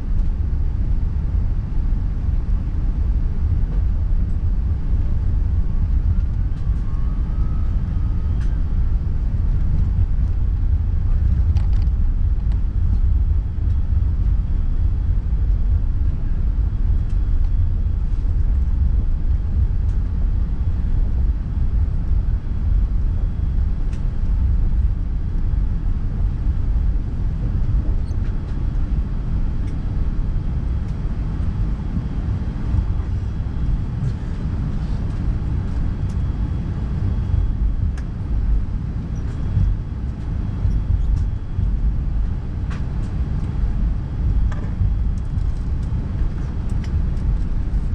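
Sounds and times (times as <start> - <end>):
aircraft engines rumbling: 0.0 - 47.9.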